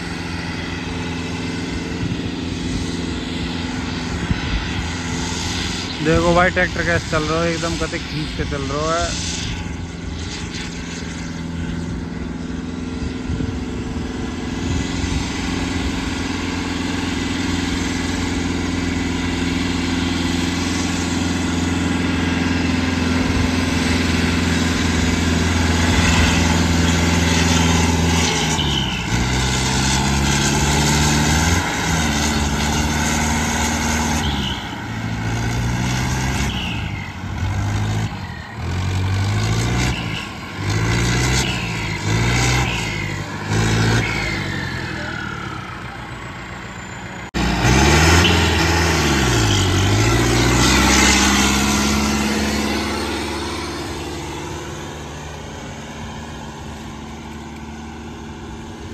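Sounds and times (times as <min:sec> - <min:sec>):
diesel tractor engine under load: 0:00.0 - 0:58.9.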